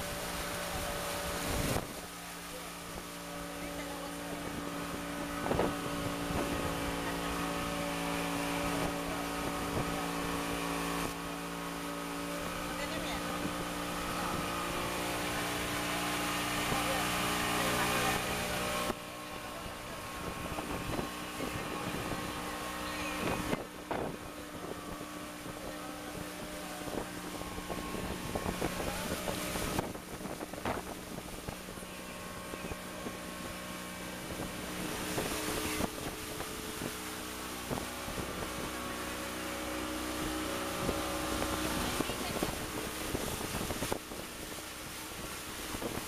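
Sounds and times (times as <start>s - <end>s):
wind buffeting microphone: 0.0s - 2.2s, 4.3s - 11.2s, 17.8s - 46.0s
motorboat engine running: 0.0s - 46.0s.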